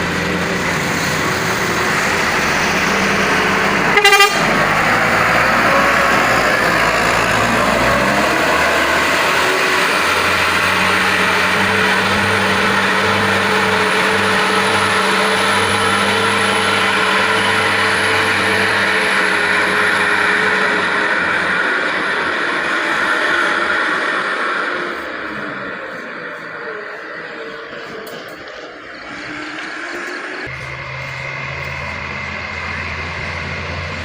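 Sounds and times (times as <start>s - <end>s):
heavy truck engine running: 0.0s - 34.0s.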